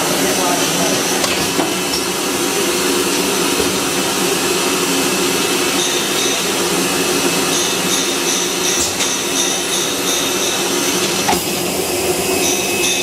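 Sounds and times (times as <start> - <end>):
mechanical hum of bottling line: 0.0 - 13.0.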